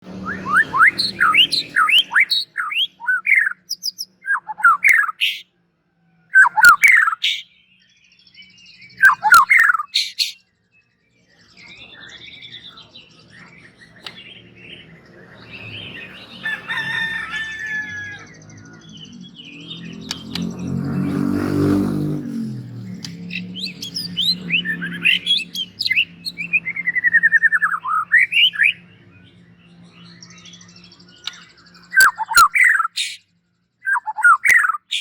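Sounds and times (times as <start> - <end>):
bird singing whistles and chatter: 0.1 - 5.4, 6.3 - 21.0, 22.9 - 35.0.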